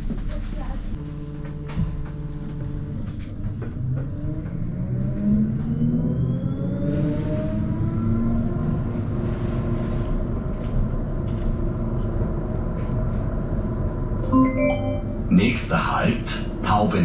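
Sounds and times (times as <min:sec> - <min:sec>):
tram running rumble: 0:00.0 - 0:17.0
tram motor whine rising: 0:00.9 - 0:17.0.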